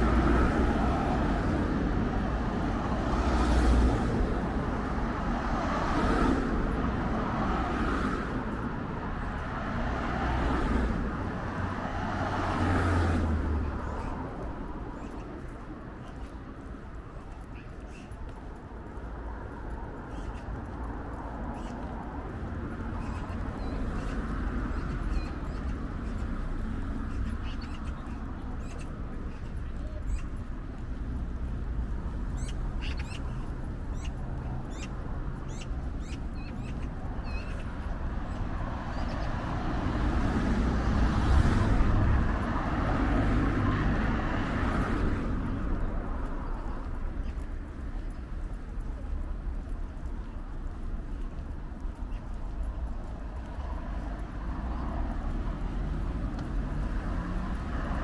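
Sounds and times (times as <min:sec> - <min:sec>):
street low rumble: 0:00.0 - 0:58.0.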